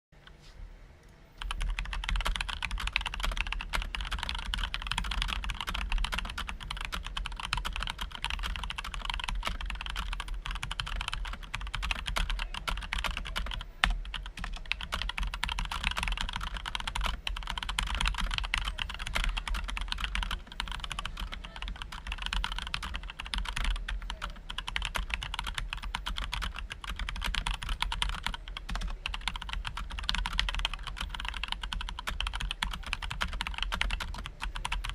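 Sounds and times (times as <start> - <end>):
mechanical keyboard typing: 1.4 - 34.9.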